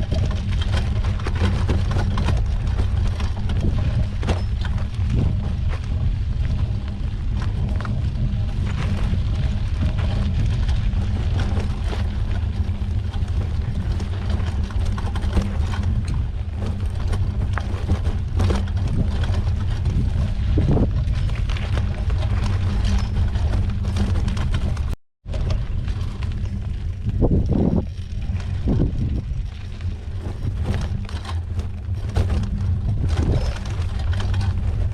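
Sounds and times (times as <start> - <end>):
bike clicks and rattles: 0.0 - 34.9
wind and riding noise: 0.0 - 34.9.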